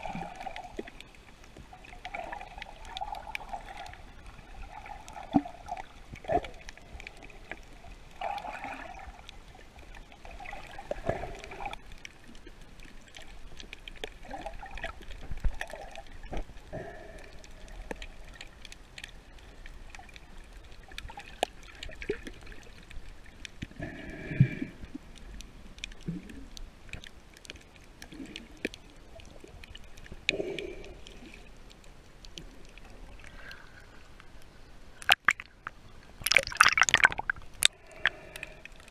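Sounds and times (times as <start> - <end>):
underwater gurgling and sloshing: 0.0 - 38.9.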